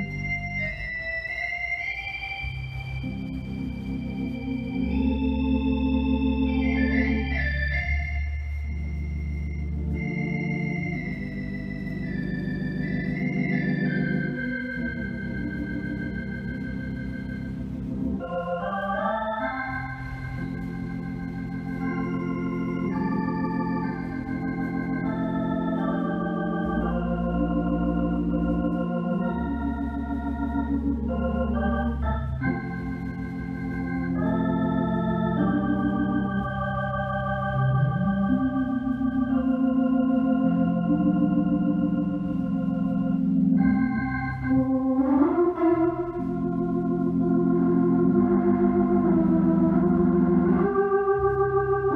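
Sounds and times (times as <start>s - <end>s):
electric organ chords: 0.0s - 51.9s.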